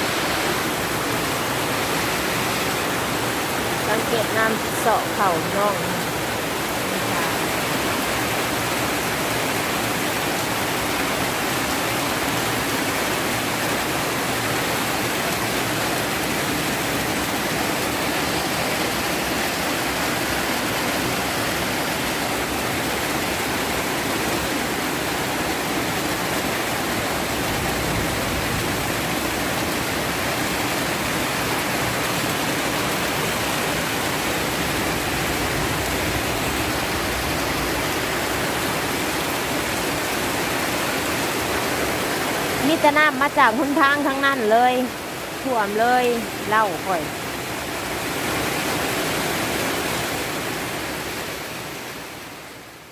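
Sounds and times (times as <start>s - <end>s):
heavy rain pouring: 0.0s - 52.9s
runoff water flowing: 0.0s - 52.9s.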